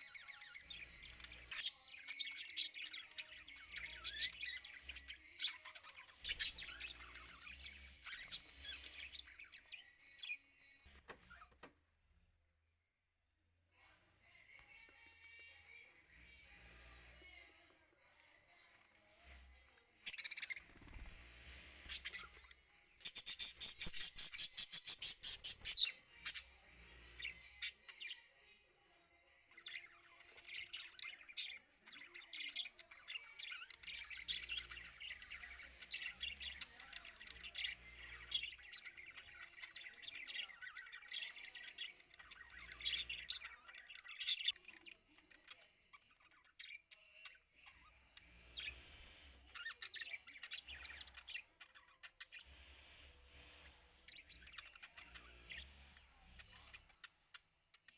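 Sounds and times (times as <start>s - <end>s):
budgerigars chirping: 0.0s - 11.5s, 20.0s - 28.3s, 29.6s - 57.9s.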